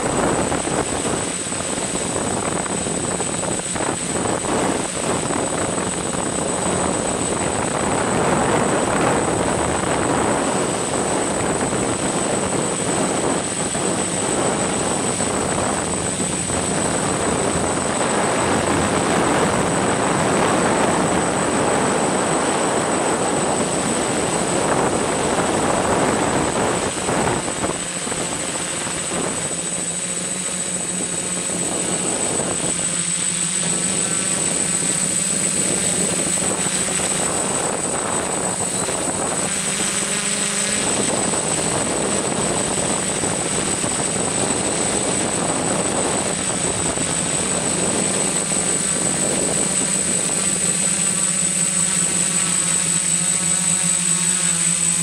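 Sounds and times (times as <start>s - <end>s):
drone motors whirring: 0.0s - 55.0s.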